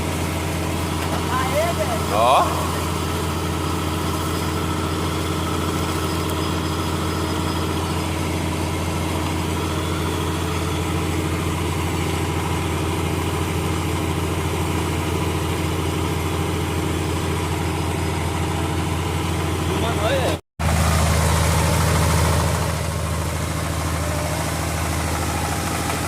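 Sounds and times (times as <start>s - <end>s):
air compressor engine droning: 0.0s - 26.0s.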